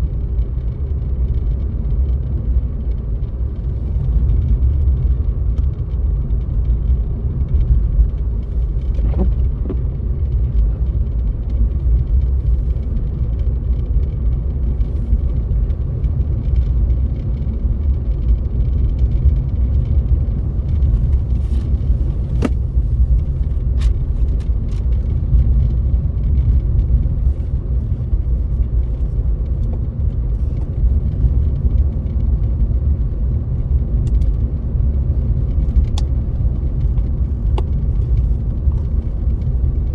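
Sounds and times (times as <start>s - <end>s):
car driving on snowy road: 0.0s - 39.9s.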